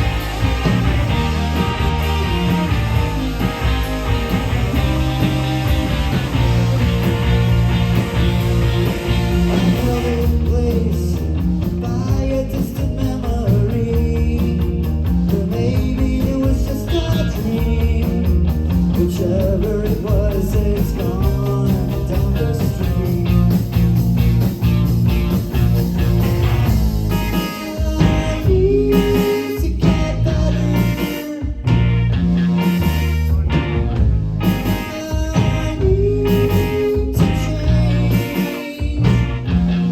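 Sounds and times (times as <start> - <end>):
rock music with singing: 0.0 - 39.9.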